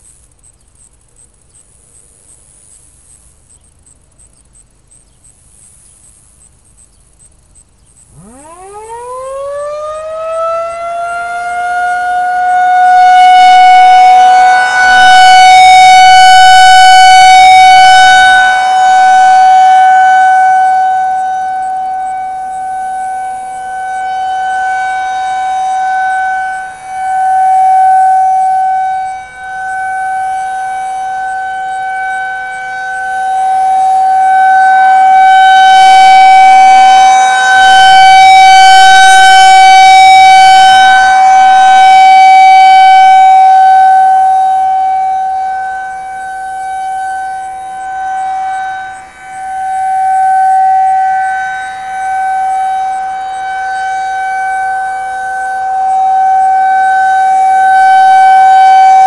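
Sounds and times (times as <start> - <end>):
rotating siren steady tone: 0.0 - 59.0.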